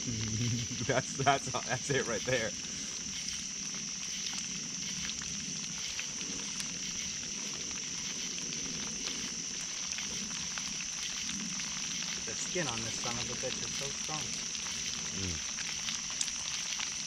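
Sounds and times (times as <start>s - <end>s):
campfire crackling: 0.0s - 17.0s
night insects droning: 0.0s - 17.0s.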